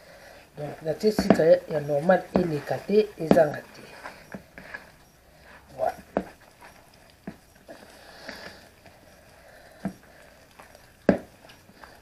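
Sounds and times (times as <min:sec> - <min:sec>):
hand slapping dough: 0:00.7 - 0:08.9, 0:09.8 - 0:12.0.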